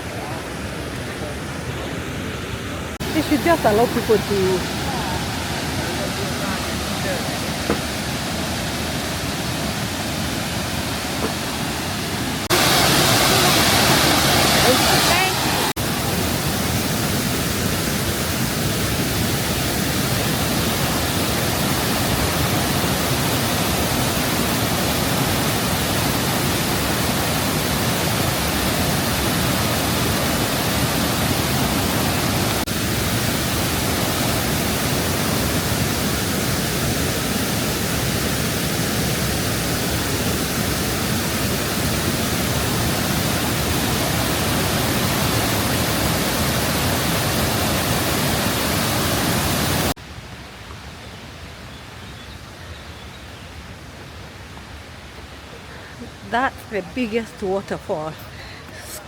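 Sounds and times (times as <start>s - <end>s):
waterfall rushing: 0.0s - 51.4s, 53.8s - 59.0s.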